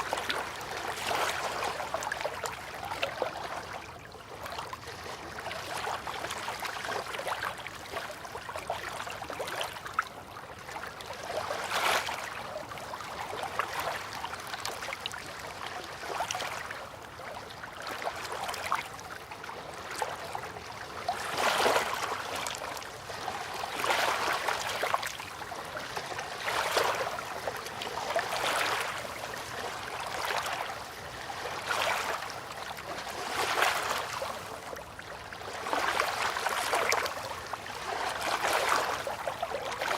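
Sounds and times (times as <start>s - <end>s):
river water lapping: 0.0s - 39.9s.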